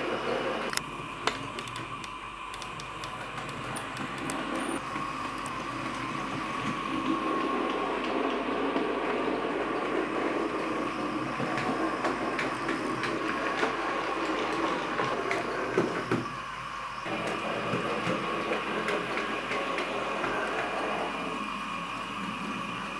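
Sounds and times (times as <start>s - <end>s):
wheels clicking on rails: 0.0s - 16.2s, 17.0s - 22.9s.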